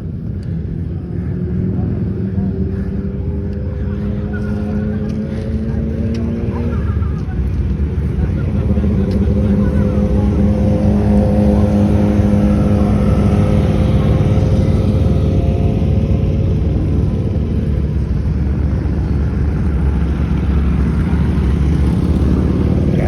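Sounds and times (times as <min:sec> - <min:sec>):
boat engine drone: 0:00.0 - 0:23.0.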